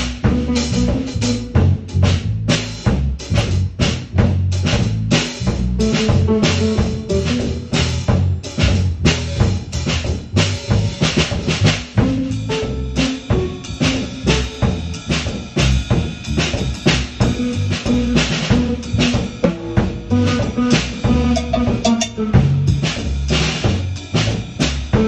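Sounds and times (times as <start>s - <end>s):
held bass notes: 0.0s - 24.4s
drum kit beat: 0.0s - 25.0s.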